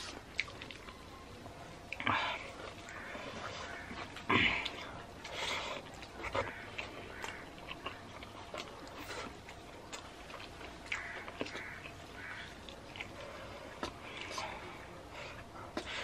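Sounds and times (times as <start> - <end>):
person chewing: 0.0 - 1.3, 1.9 - 16.0.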